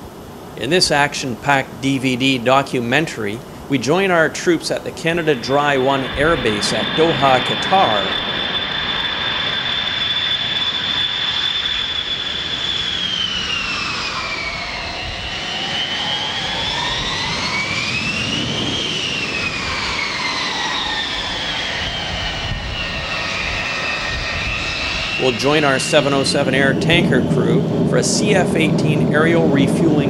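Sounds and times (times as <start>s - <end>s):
jet engines whining: 0.0s - 30.0s
jet rush: 0.0s - 30.0s.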